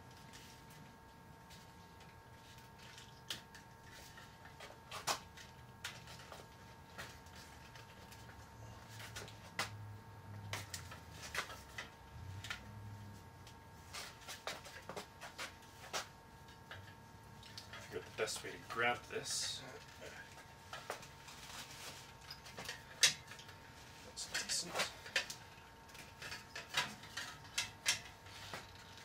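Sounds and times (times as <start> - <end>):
copper tubing clicking and scraping: 1.5 - 29.0.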